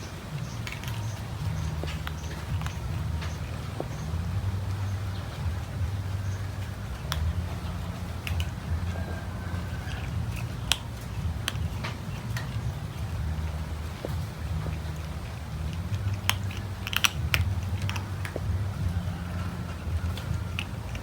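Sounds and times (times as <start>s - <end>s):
cats chewing: 0.0s - 21.0s
steady low rumble: 0.0s - 21.0s.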